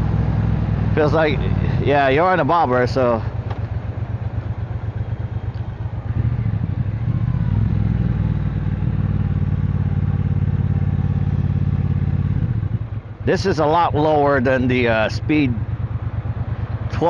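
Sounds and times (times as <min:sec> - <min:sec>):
motorcycle engine on the road: 0:00.0 - 0:17.0.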